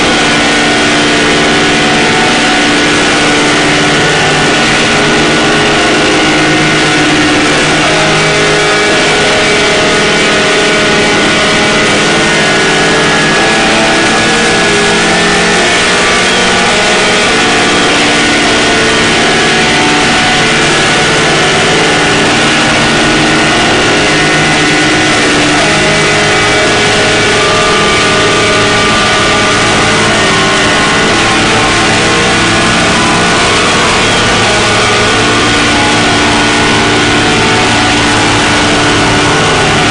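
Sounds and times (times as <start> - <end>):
harsh noise drone music: 0.0 - 39.9.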